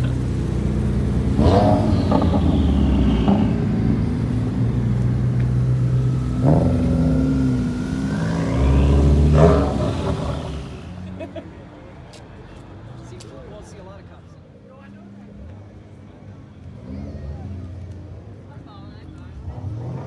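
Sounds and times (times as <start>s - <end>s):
car engines running and revving: 0.0s - 12.6s, 15.3s - 20.0s.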